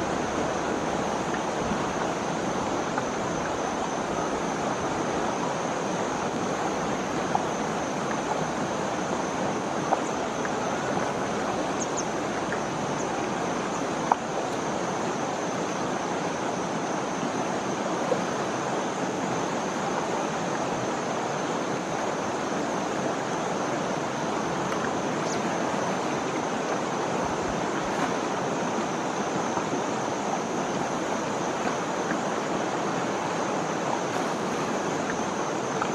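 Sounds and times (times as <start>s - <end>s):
flowing river: 0.0s - 35.9s.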